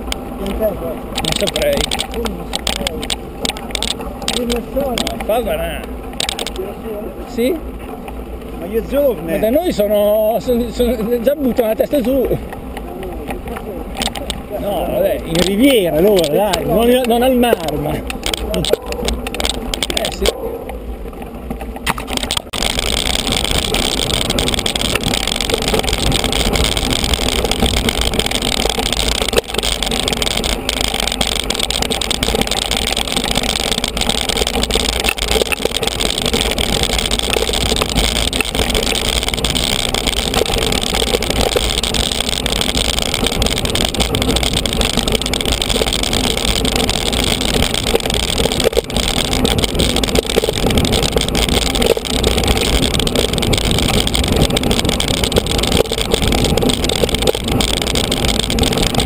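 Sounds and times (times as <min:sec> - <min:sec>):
mountain bike rattling on dirt trail: 0:00.0 - 0:59.0
wind buffeting microphone: 0:10.8 - 0:59.0.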